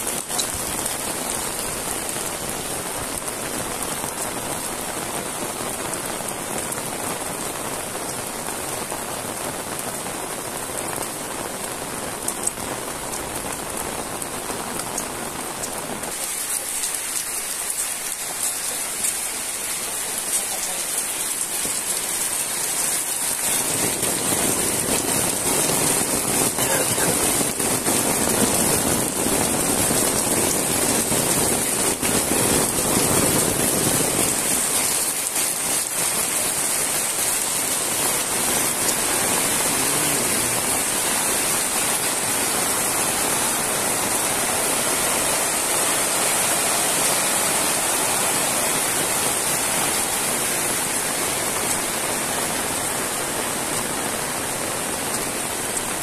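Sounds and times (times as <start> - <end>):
heavy rain splashing on concrete: 0.0 - 56.0.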